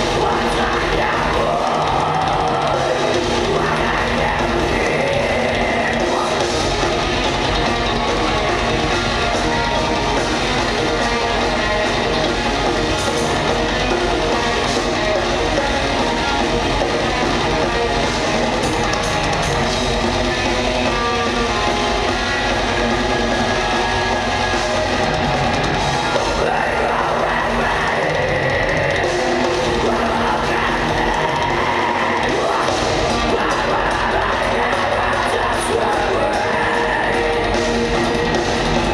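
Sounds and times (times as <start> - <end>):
live rock band: 0.0 - 38.9.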